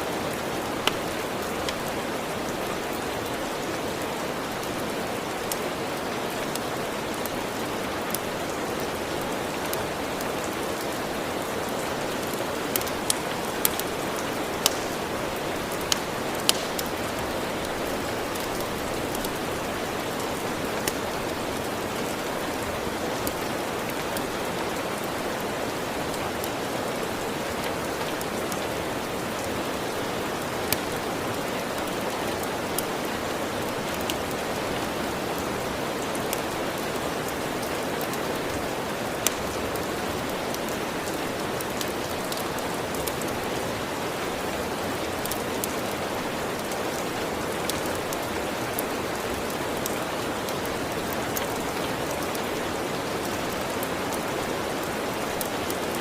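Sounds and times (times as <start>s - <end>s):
steady rain: 0.0s - 56.0s
wood fire crackles and pops: 0.1s - 56.0s.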